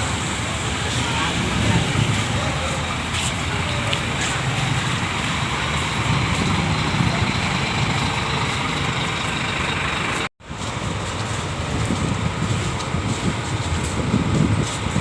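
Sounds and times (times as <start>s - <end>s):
diesel bus engine running: 0.0s - 15.0s.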